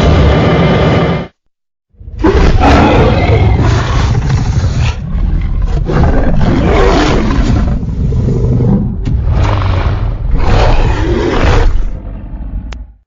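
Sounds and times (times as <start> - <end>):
dinosaur roaring: 2.2 - 13.0.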